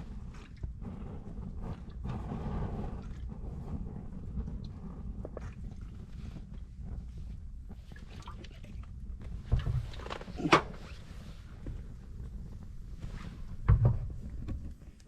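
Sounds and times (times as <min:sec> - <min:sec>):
campfire rumbling: 0:00.0 - 0:15.0.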